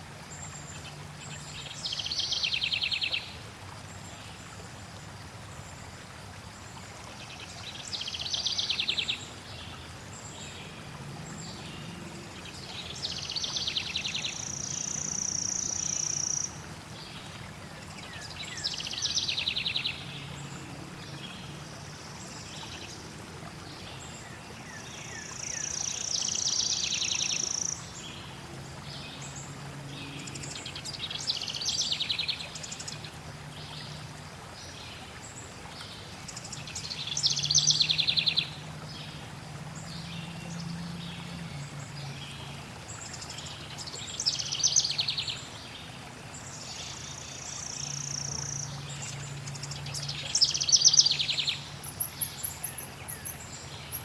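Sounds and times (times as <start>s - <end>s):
songbirds singing: 0.0s - 4.7s, 5.6s - 54.0s
flowing water: 0.0s - 54.0s.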